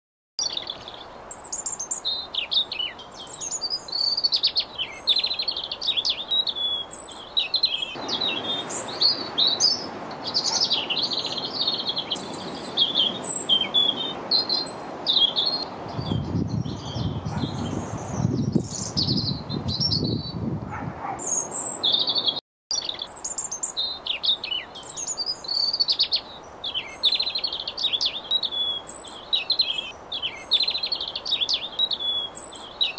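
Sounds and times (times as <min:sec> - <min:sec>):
robins singing: 0:00.4 - 0:32.9.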